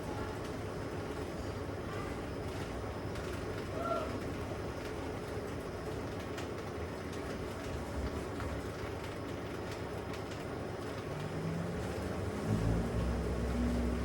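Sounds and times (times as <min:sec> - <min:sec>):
washing machine rumbling: 0:00.0 - 0:14.0.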